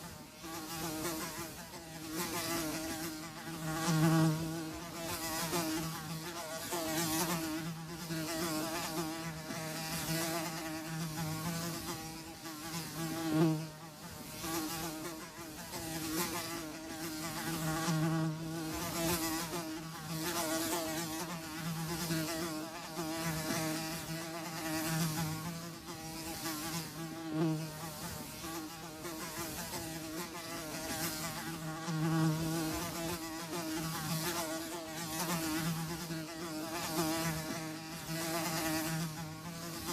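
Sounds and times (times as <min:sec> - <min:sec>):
flies buzzing: 0:00.0 - 0:39.9.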